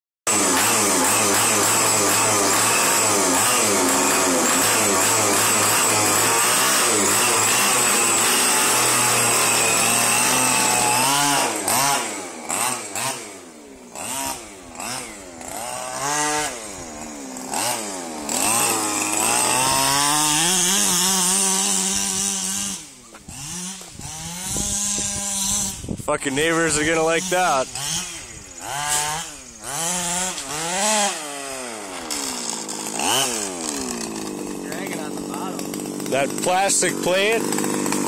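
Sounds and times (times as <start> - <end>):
small two-stroke engine revving: 0.3 - 38.0.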